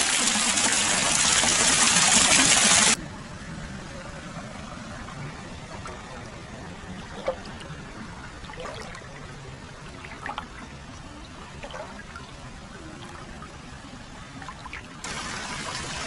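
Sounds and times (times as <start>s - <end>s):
water pouring and trickling: 0.0s - 3.0s, 5.3s - 16.0s.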